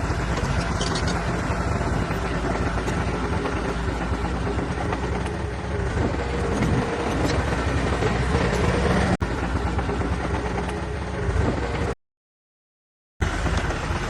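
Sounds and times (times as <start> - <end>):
heavy diesel engine running: 0.0 - 12.0, 13.2 - 14.0.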